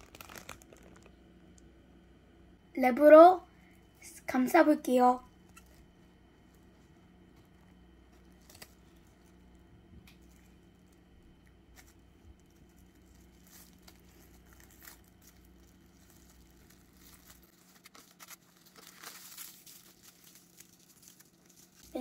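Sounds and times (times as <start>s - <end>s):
plastic cling wrap crinkling: 0.0s - 1.7s, 5.4s - 22.0s.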